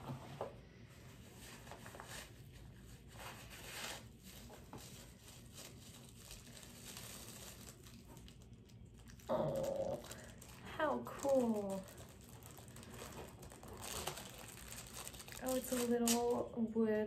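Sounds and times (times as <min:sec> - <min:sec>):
plastic wrapping crinkling: 0:01.2 - 0:16.5.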